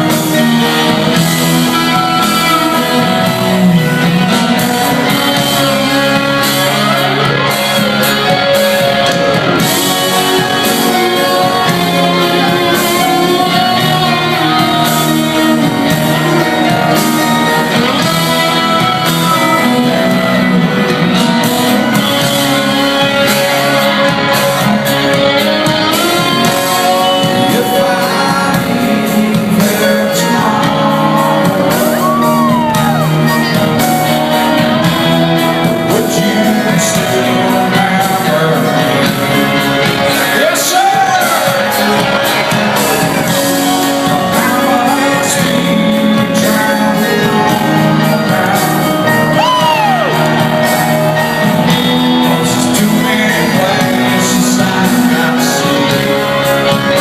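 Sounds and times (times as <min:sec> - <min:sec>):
electric guitar bending notes: 0:00.0 - 0:57.0
rock music with singing: 0:00.0 - 0:57.0.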